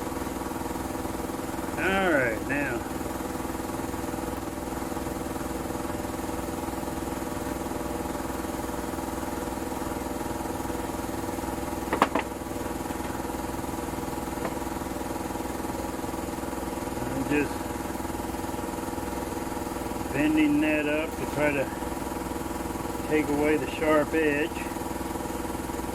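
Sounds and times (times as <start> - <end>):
motor droning: 0.0 - 25.9.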